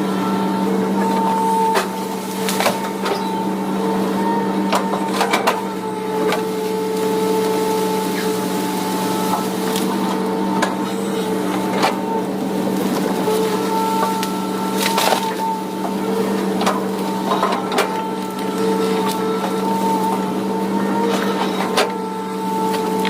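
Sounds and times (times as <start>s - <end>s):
excavator engine and hydraulics: 0.0s - 23.0s
wood and branches cracking: 1.1s - 3.4s, 4.7s - 23.0s.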